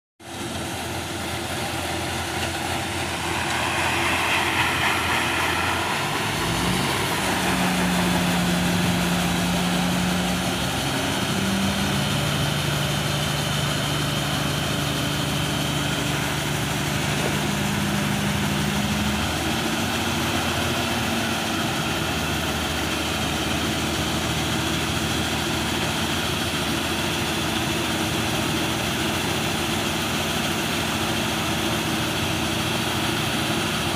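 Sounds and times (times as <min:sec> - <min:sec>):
combine harvester mechanical drone: 0:00.2 - 0:33.9.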